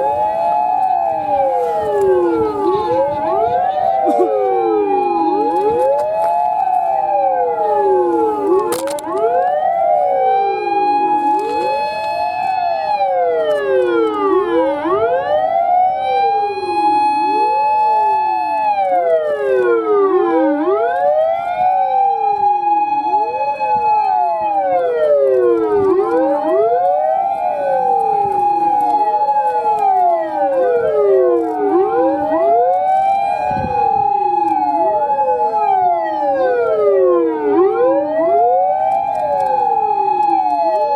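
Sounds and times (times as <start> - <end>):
fire engine sirens wailing: 0.0 - 40.9.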